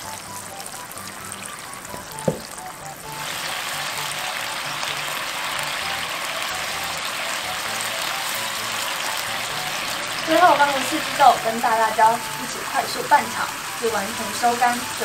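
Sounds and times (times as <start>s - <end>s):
sauce boiling and sizzling in wok: 0.0s - 15.0s
soft background music: 0.0s - 15.0s.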